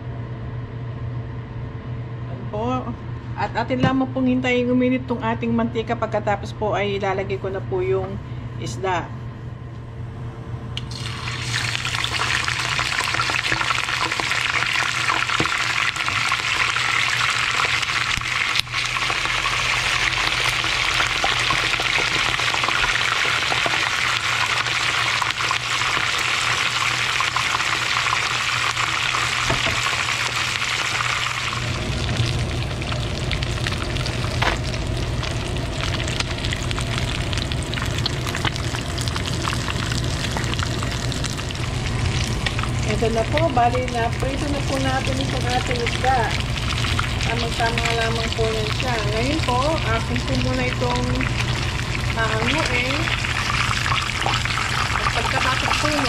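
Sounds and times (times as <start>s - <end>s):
fish sizzling in hot oil: 10.9s - 56.0s.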